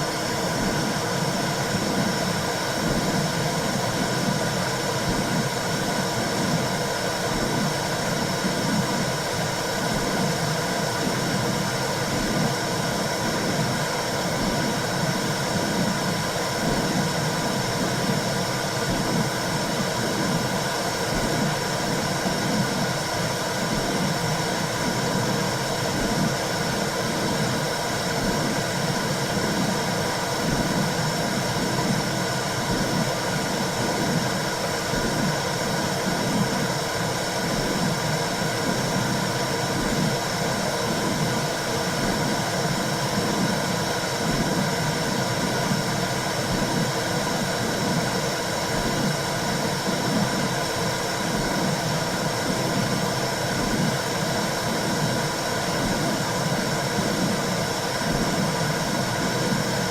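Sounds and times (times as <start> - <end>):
whooshing womb white noise: 0.0 - 59.9.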